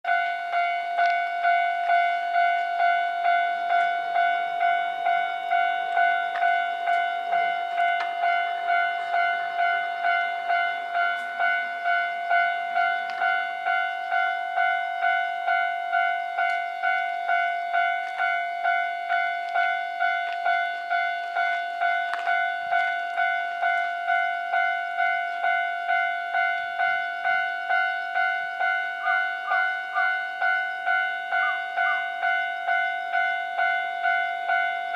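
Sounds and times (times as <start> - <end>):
level crossing warning bell ringing: 0.0 - 34.9.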